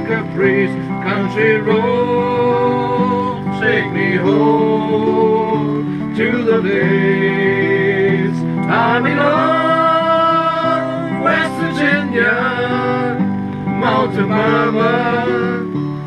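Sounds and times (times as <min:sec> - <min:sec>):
guitar song with singing: 0:00.0 - 0:16.0.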